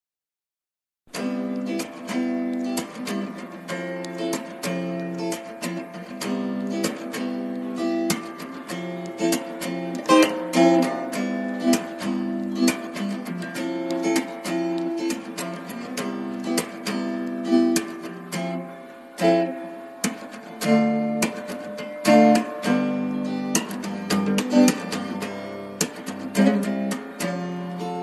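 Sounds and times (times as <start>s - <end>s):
strummed acoustic guitar: 1.1s - 28.0s.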